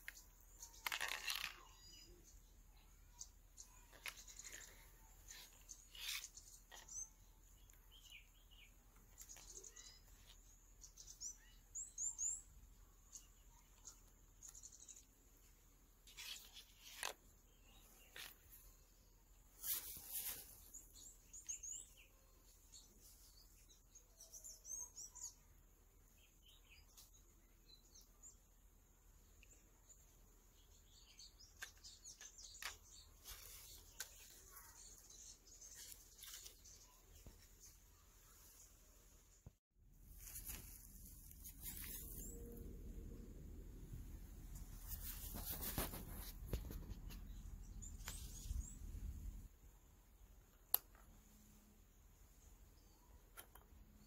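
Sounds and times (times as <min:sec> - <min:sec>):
birds chirping: 0:00.0 - 0:49.6.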